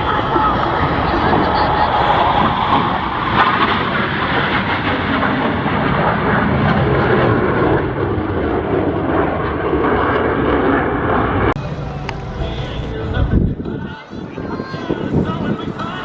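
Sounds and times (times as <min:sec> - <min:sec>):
fighter jets roaring: 0:00.0 - 0:15.7.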